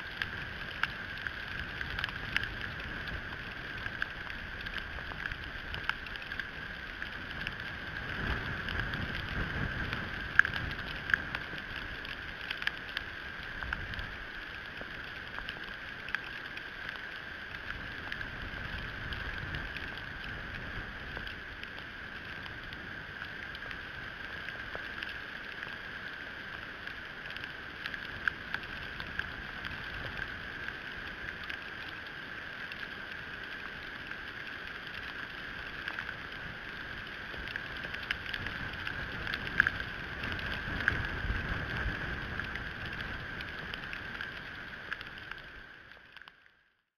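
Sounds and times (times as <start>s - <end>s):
wind rumble on microphone: 0.0s - 45.6s.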